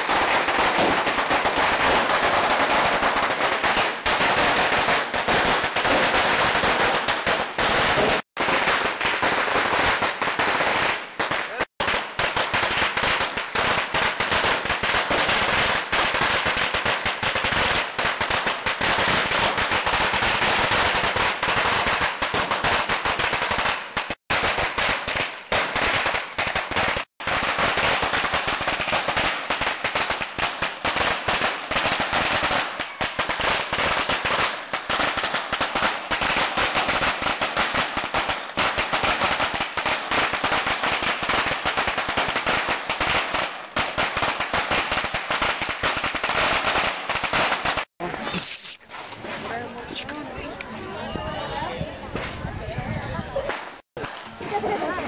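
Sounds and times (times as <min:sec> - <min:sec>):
firecrackers crackling: 0:00.0 - 0:50.7, 0:52.0 - 0:52.5, 0:53.3 - 0:55.0.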